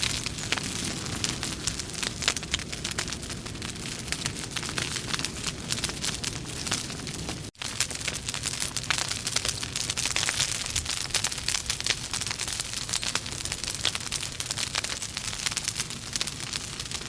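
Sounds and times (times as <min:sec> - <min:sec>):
logs crackling in fireplace: 0:00.0 - 0:17.0.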